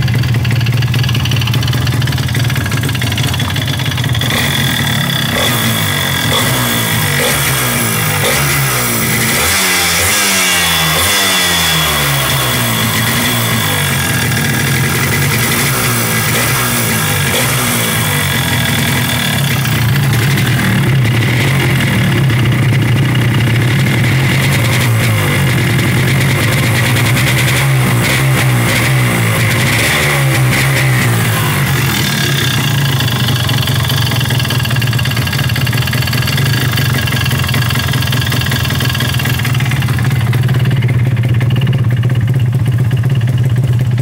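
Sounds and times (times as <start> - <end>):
two-stroke motorcycle engine revving: 0.0 - 44.0.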